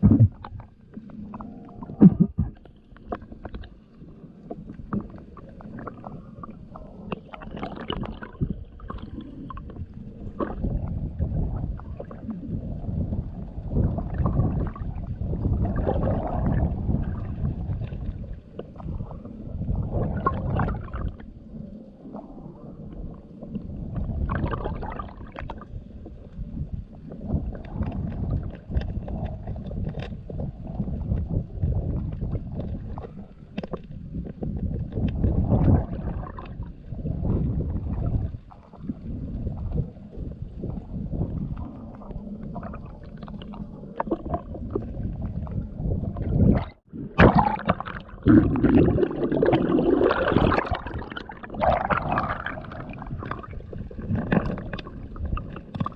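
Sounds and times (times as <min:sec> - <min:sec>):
small underwater clicks: 0:00.0 - 0:12.6, 0:20.0 - 0:55.9
underwater river rumble: 0:00.0 - 0:55.9.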